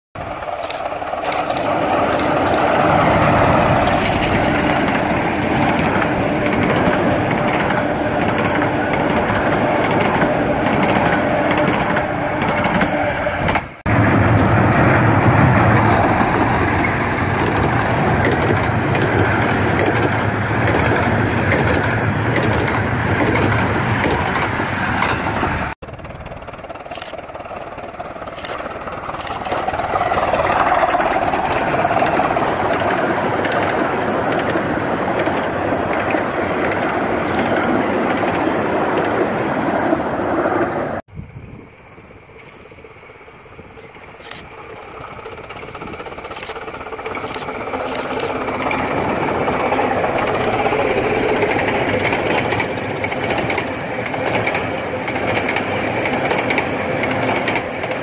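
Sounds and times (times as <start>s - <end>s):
miniature steam train rumbling: 0.2s - 58.0s.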